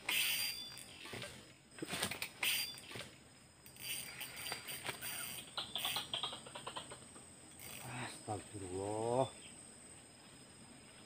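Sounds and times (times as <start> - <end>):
high insect drone: 0.0 - 11.0
insect chirps: 0.0 - 11.0.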